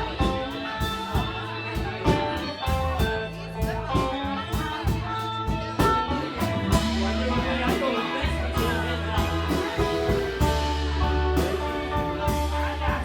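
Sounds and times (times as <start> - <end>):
bass guitar: 0.0 - 13.0
electric guitar notes: 0.0 - 13.0.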